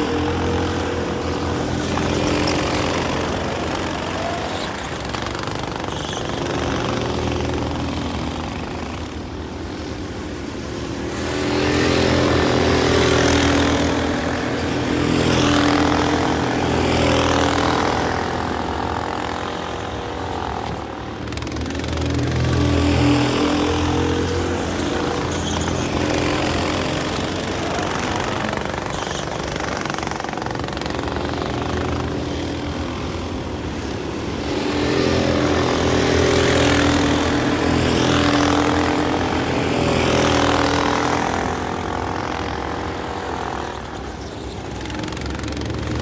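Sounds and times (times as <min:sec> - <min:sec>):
go-kart engines racing: 0:00.0 - 0:46.0.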